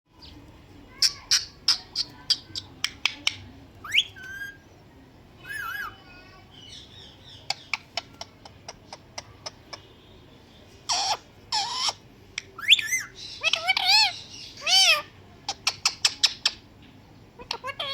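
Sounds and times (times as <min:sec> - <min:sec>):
parakeet whistling and chattering: 0:00.9 - 0:04.7, 0:05.4 - 0:10.0, 0:10.9 - 0:16.7, 0:17.4 - 0:17.9.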